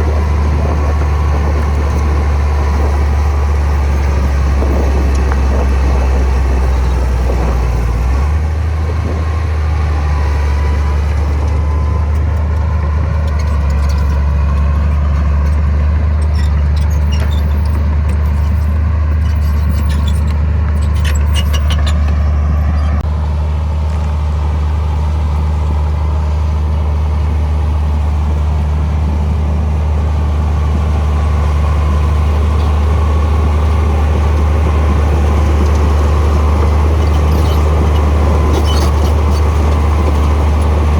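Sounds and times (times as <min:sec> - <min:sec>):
heavy diesel machinery droning: 0:00.0 - 0:40.9.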